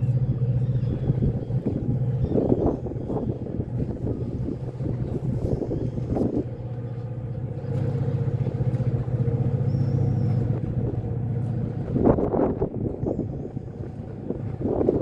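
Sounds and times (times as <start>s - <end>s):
low engine drone: 0.0s - 15.0s
wind buffeting microphone: 0.0s - 15.0s.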